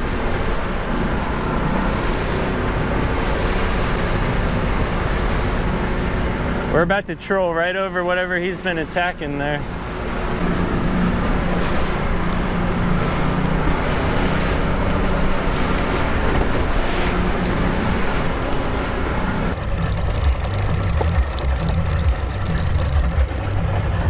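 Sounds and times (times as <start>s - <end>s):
outboard motor running: 0.0s - 24.0s
water rushing along hull: 0.0s - 24.0s.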